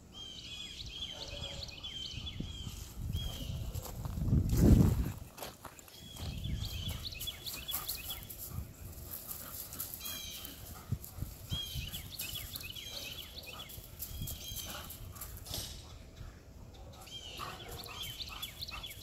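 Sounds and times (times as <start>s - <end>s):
songbird chirping: 0.0s - 4.2s, 5.0s - 19.0s.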